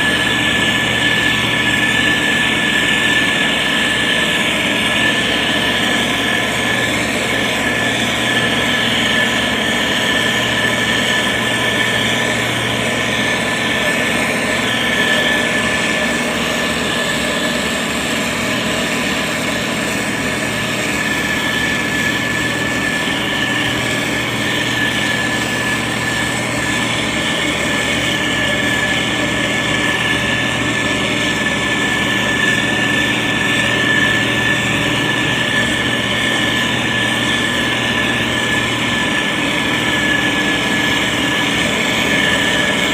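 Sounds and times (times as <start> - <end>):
diesel engine running: 0.0 - 42.9
high whine: 0.0 - 42.9.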